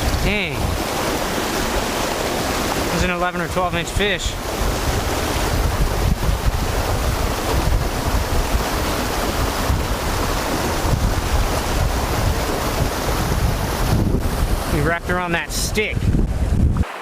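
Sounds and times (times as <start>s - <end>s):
wind on microphone: 0.0s - 2.9s, 3.6s - 17.0s
stream water rushing: 0.0s - 17.0s.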